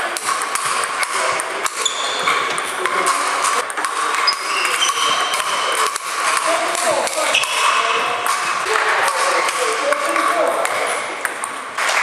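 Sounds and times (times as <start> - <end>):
busy sports hall background: 0.0 - 12.0
ping pong ball clicking off bats: 0.0 - 12.0
ball bouncing on table: 0.2 - 12.0.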